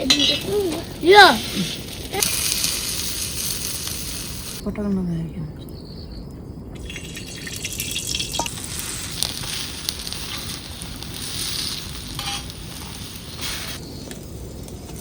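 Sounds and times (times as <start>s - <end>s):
food sizzling in hot oil: 0.0s - 4.6s, 6.8s - 15.0s.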